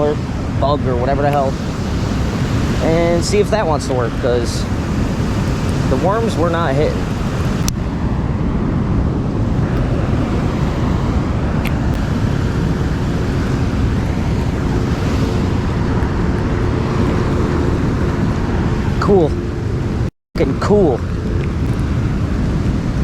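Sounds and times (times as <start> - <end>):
water roaring over dam spillway: 0.0 - 23.0.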